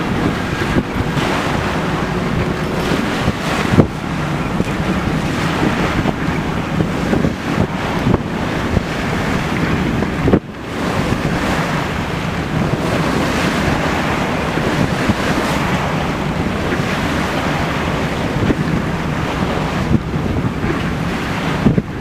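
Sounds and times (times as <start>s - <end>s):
sea water rushing along hull: 0.0s - 22.0s
wind buffeting microphone: 0.0s - 22.0s.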